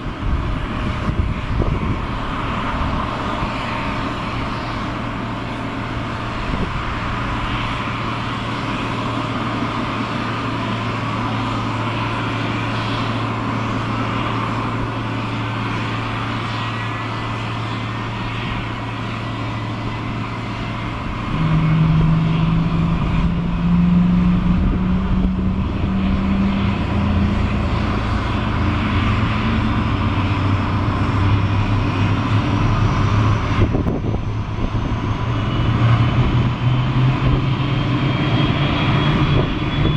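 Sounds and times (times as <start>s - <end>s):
aircraft engine hum with whine: 0.0s - 39.9s
deep engine drone: 0.0s - 39.9s.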